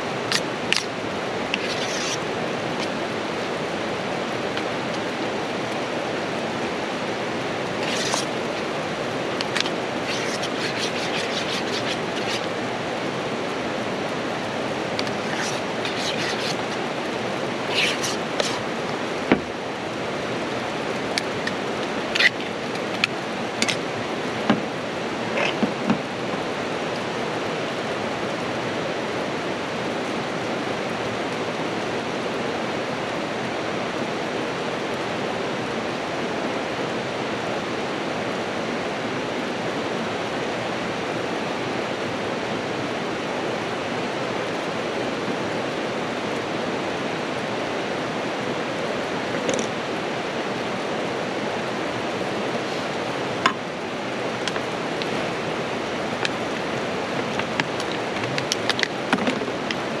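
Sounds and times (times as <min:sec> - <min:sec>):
river rushing: 0:00.0 - 1:00.0.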